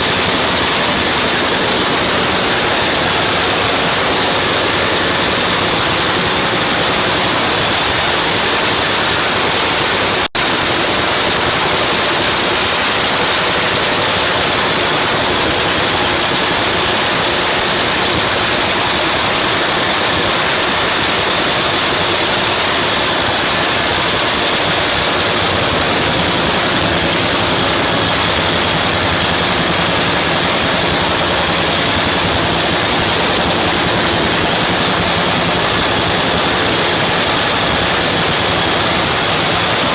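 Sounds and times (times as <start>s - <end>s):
supercharged engine running loud: 0.0s - 39.9s.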